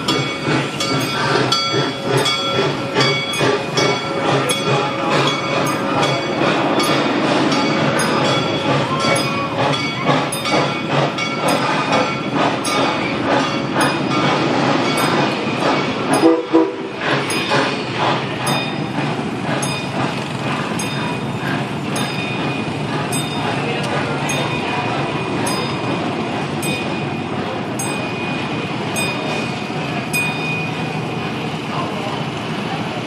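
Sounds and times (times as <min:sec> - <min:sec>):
train cars rumbling past: 0:00.0 - 0:33.0
train wheels clicking over rail joints: 0:00.0 - 0:33.0.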